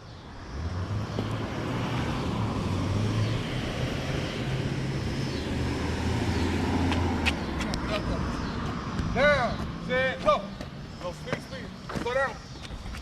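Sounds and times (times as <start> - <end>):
car engine humming: 0.0 - 12.9
tyre hiss and road noise: 0.0 - 13.0.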